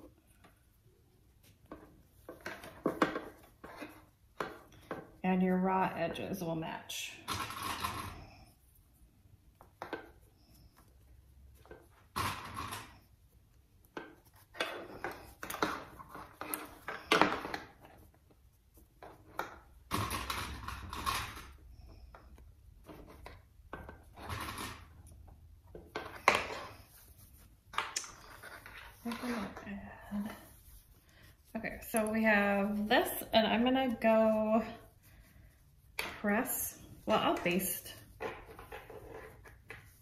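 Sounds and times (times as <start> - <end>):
fabric rustling: 0.0 - 40.0.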